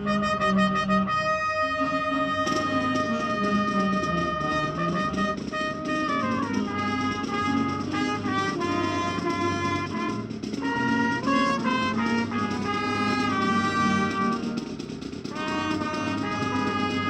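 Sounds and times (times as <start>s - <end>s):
marching band playing anthem: 0.0s - 17.0s.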